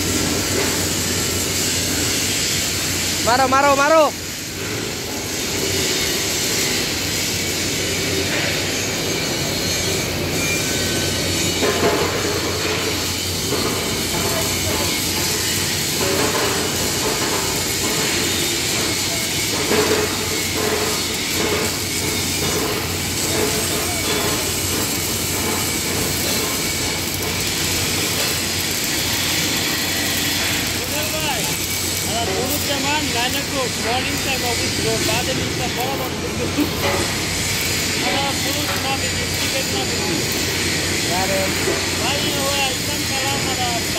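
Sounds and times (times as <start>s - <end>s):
electric arc welding: 0.0s - 43.9s.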